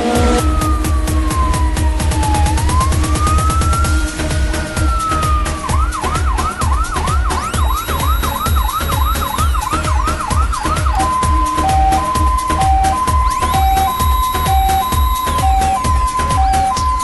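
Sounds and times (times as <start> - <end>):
electronic dance music: 0.0 - 17.0
siren effect: 0.0 - 17.0
kick-drum beat: 0.2 - 17.0.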